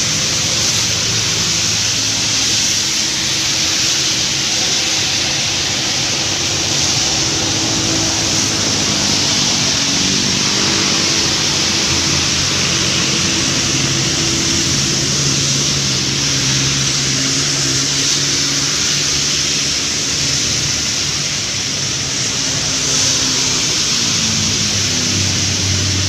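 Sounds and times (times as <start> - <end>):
heavy rain: 0.0 - 26.0
tyres on wet road: 0.0 - 26.0.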